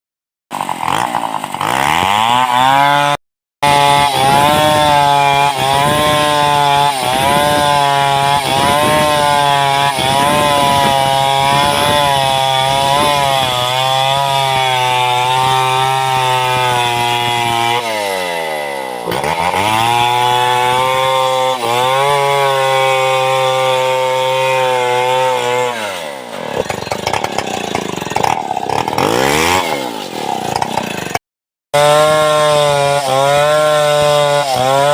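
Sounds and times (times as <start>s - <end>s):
chainsaw cutting log: 0.5s - 31.2s, 31.8s - 34.9s.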